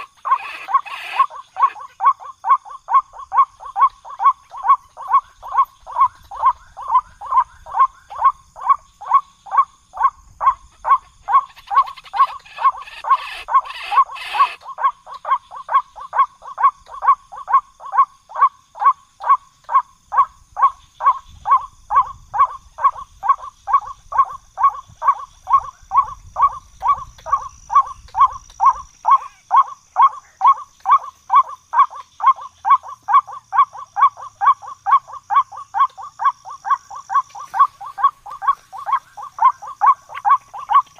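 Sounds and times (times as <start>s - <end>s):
waterhen calling: 0.0s - 17.2s, 21.0s - 40.9s.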